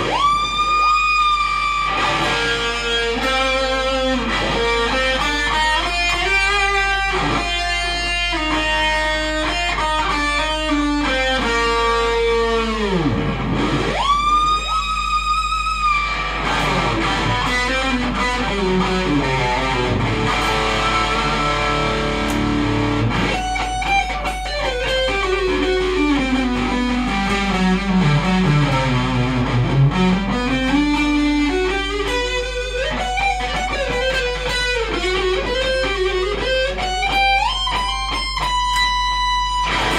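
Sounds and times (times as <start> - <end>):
electric guitar lead lines: 0.0 - 39.9
guitar whammy-bar dive: 0.0 - 39.9
high wavering guitar note: 0.0 - 39.9.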